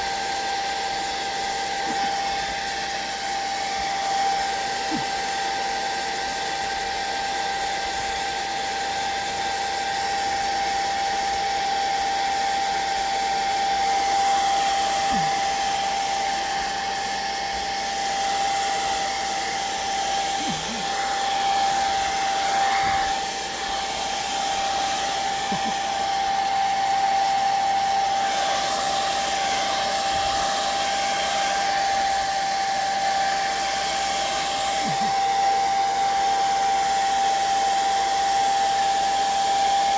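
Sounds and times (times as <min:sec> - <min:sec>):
hot-air dryer whining: 0:00.0 - 0:39.9.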